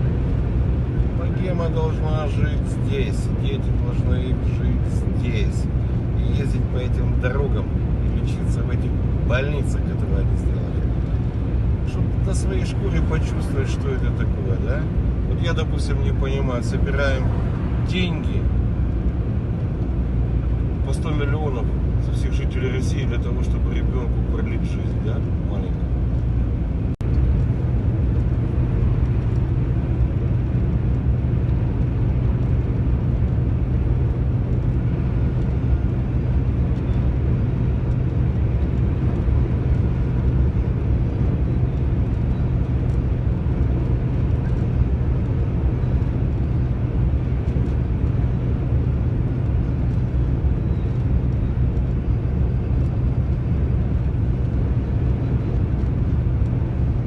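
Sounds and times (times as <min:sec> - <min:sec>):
road noise: 0:00.0 - 0:57.0
truck engine drone: 0:00.0 - 0:57.0.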